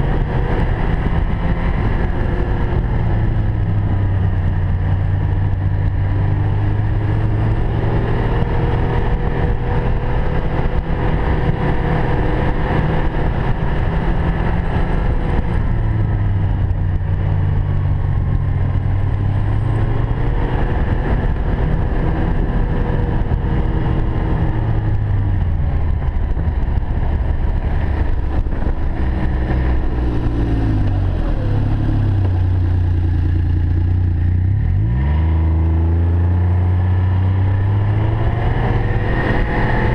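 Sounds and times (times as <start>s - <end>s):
rush of riding noise: 0.0s - 39.9s.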